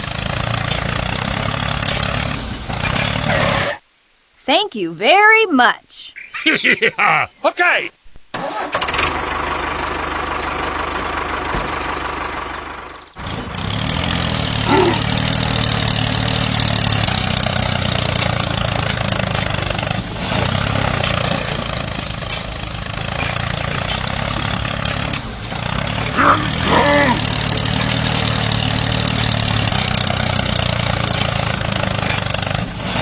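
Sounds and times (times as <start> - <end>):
small engine running: 0.0 - 3.6, 8.4 - 33.0.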